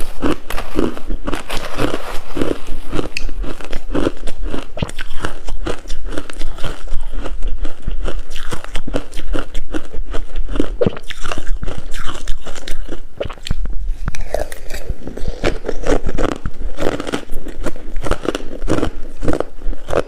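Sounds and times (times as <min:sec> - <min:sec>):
ice crunching being chewed: 0:00.0 - 0:20.0.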